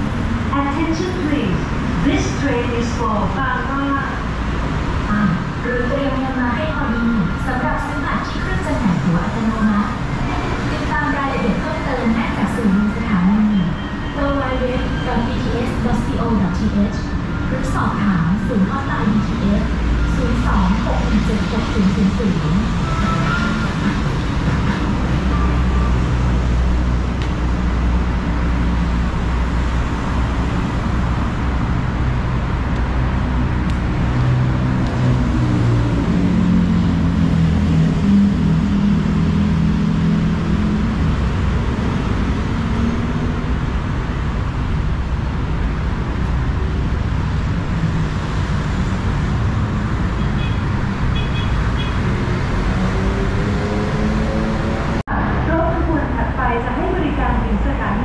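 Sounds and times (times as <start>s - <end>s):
train rumbling and rolling: 0.0s - 58.0s.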